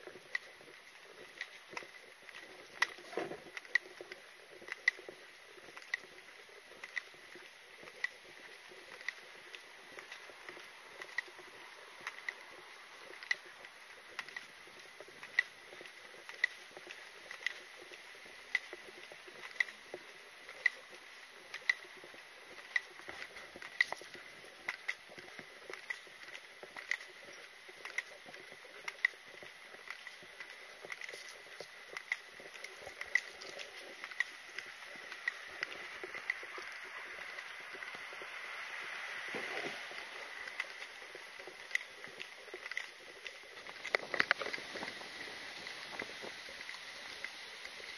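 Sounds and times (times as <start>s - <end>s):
footsteps on sidewalk: 0.0s - 47.9s.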